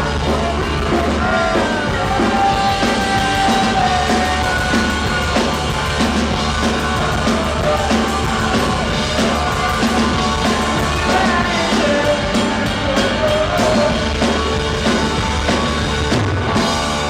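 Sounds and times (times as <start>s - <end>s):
person singing: 0.0s - 15.6s
drum kit beat: 0.0s - 17.0s
guitars: 0.0s - 17.0s
rock band playing: 0.0s - 17.0s.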